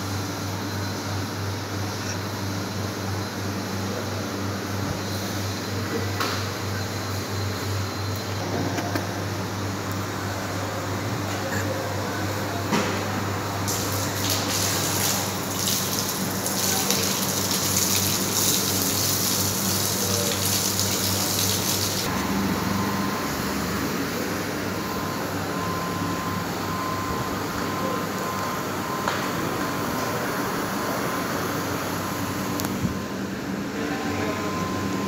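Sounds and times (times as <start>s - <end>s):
machinery hum: 0.0s - 35.0s
thin steady whine: 0.0s - 35.0s.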